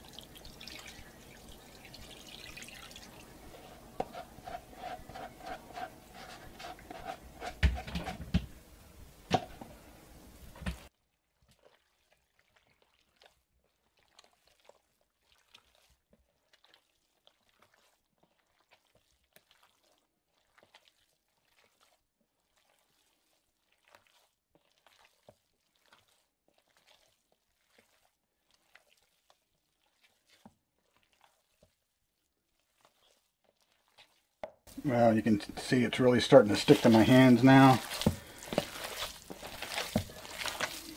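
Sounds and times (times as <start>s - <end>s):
hands kneading wet meat: 0.0s - 8.5s, 9.6s - 40.9s.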